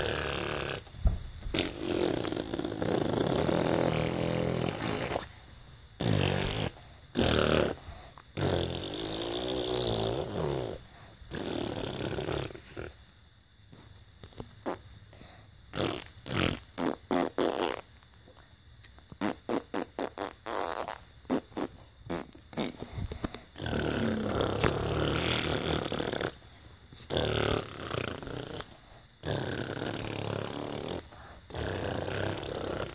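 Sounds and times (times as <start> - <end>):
person making fart noises: 0.0 - 5.3, 6.0 - 7.8, 8.4 - 13.0, 14.2 - 14.9, 15.7 - 18.0, 19.1 - 26.4, 27.0 - 32.9.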